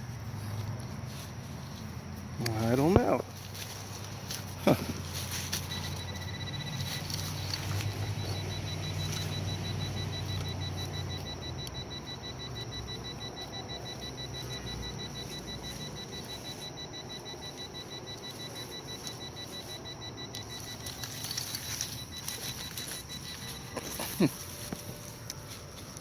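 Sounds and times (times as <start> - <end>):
low steady metal detector tone: 0.0 - 26.0
rapid high beeping: 2.4 - 26.0
faint wavering tone: 5.1 - 26.0.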